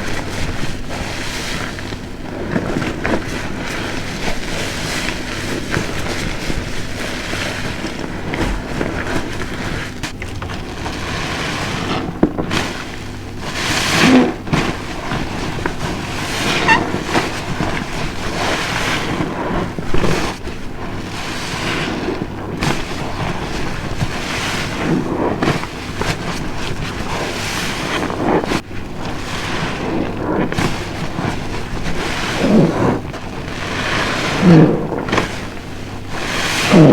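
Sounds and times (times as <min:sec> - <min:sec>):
wet sponge squelching: 0:00.0 - 0:36.9.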